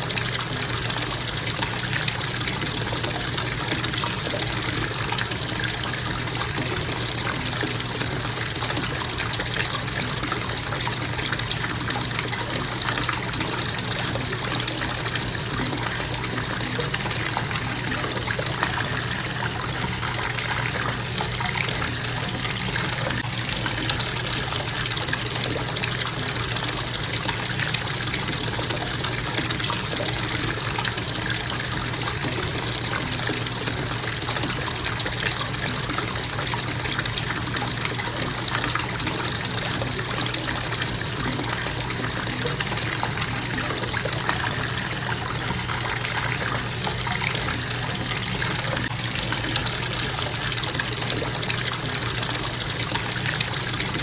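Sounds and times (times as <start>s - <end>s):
faucet pouring into tub: 0.0s - 54.0s.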